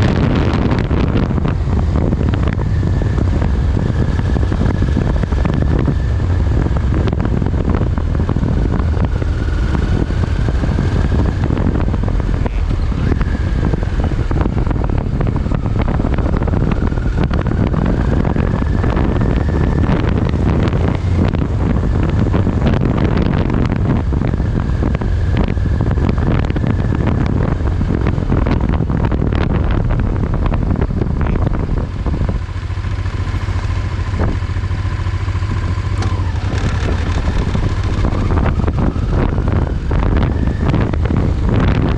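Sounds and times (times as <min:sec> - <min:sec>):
motorcycle engine rumble: 0:00.0 - 0:41.9
steady whine: 0:00.0 - 0:41.9
wind buffeting microphone: 0:00.0 - 0:41.9.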